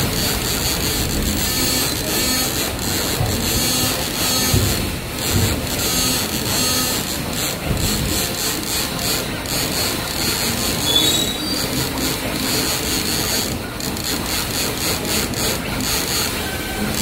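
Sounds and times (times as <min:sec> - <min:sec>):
rapid mechanical ticking: 0:00.0 - 0:17.0
steady high machine whine: 0:00.0 - 0:17.0.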